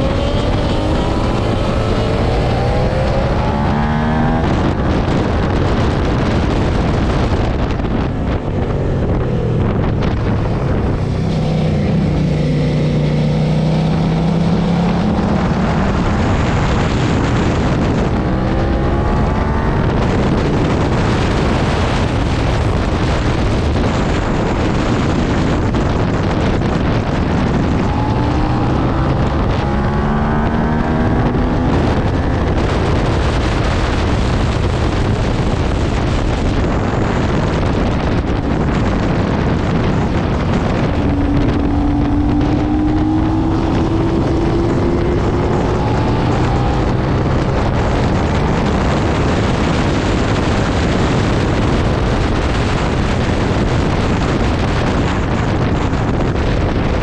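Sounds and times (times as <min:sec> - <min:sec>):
motorcycle engine revving: 0:00.0 - 0:57.0
wind noise on microphone: 0:00.0 - 0:57.0.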